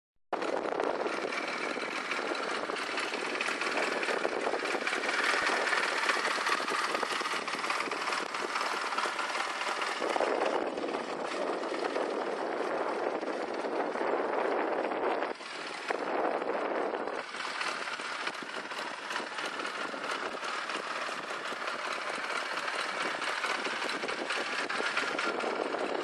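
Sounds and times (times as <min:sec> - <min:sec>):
motorcycle engine idling: 0:00.4 - 0:26.0.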